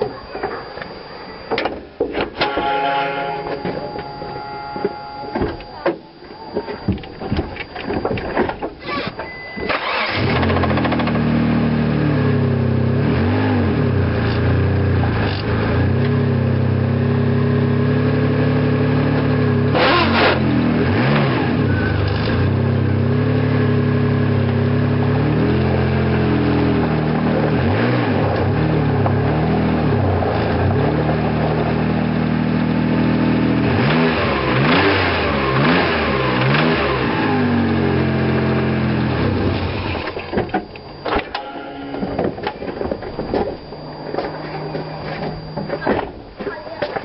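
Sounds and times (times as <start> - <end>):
car engine cranking and running: 6.7 - 47.0.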